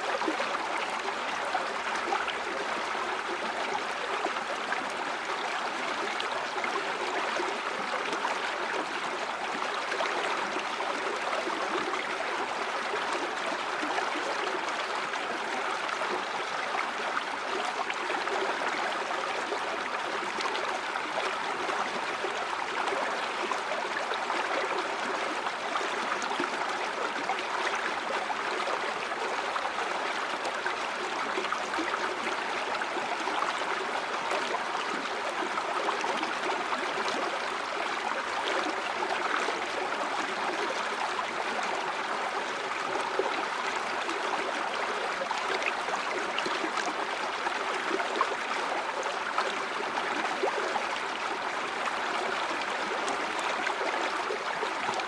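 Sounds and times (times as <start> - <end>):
stream water babbling over rocks: 0.0 - 55.0.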